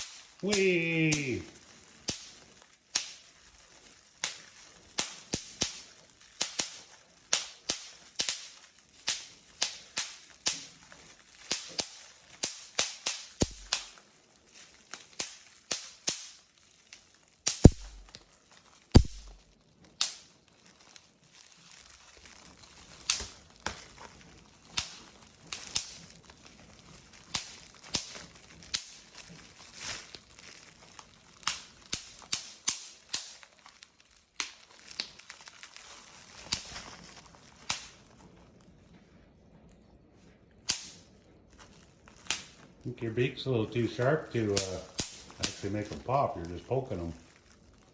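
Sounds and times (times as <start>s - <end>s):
bubble wrap popping: 0.0s - 47.9s.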